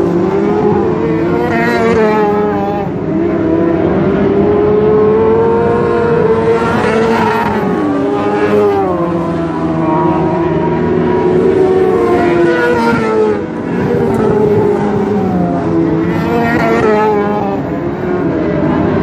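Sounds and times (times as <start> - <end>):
race car engines: 0.0 - 19.0
race car passing close: 0.0 - 19.0.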